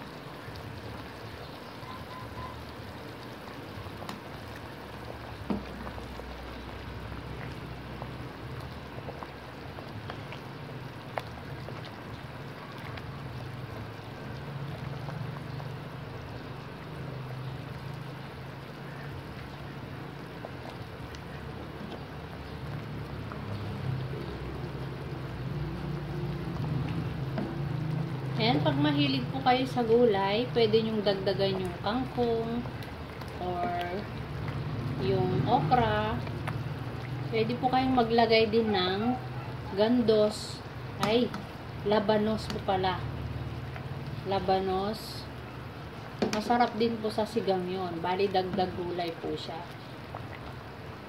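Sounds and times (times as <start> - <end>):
broth bubbling in a pot: 0.0 - 51.0.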